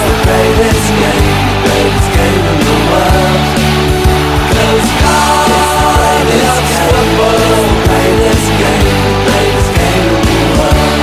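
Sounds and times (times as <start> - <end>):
rock band playing: 0.0 - 11.0
steady drum beat: 0.0 - 11.0.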